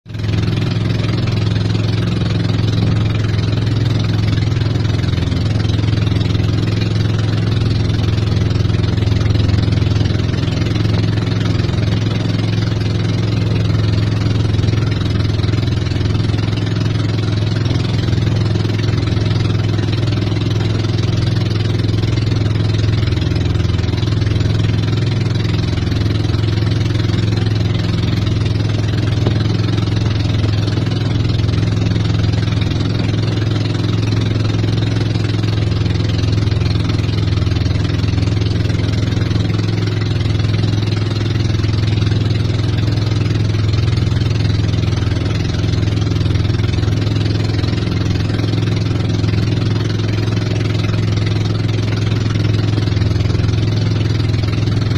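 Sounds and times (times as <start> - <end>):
boat engine running: 0.0 - 54.9
water hissing along hull: 0.2 - 54.9.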